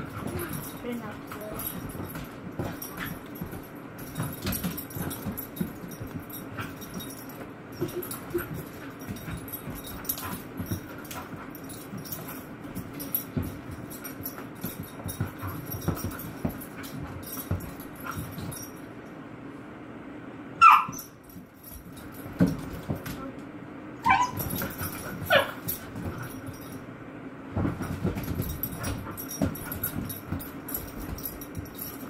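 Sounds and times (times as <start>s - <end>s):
dogs scuffling on upholstery: 0.0s - 18.9s, 20.9s - 23.3s, 24.0s - 26.8s, 27.5s - 32.0s.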